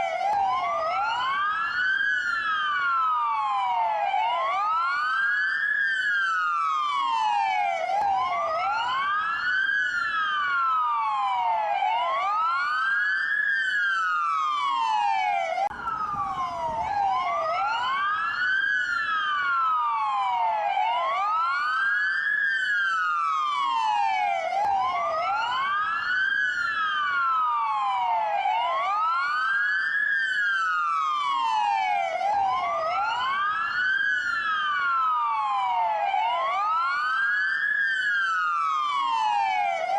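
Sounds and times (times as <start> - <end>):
police sirens wailing: 0.0 - 39.9.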